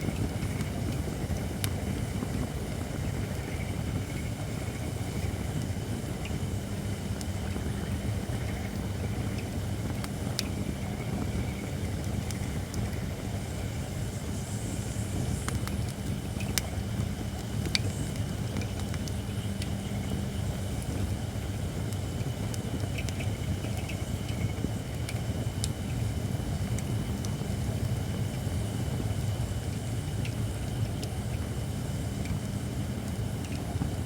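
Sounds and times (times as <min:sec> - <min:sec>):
campfire logs burning: 0:00.0 - 0:34.0
fire crackles and pops: 0:00.0 - 0:34.0.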